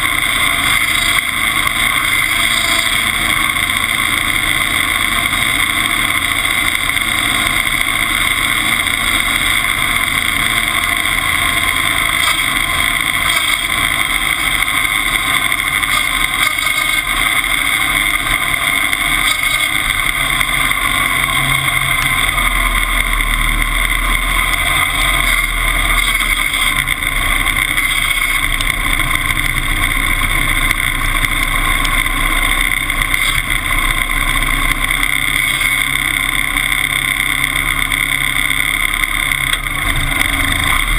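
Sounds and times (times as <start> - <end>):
engine rumbling under load: 0.0 - 40.9.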